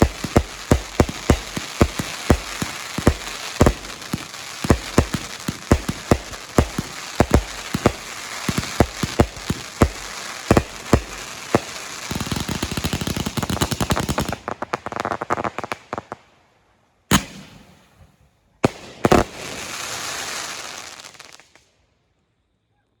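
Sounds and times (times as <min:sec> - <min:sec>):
fireworks bangs: 0:00.0 - 0:16.1, 0:17.1 - 0:21.2
fireworks crackling: 0:00.0 - 0:16.2, 0:17.1 - 0:21.7.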